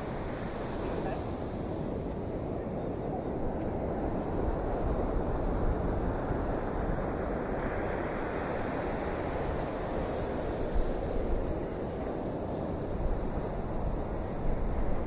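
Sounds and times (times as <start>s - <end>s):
surf rushing: 0.0s - 15.0s
wind buffeting the microphone: 0.0s - 15.0s.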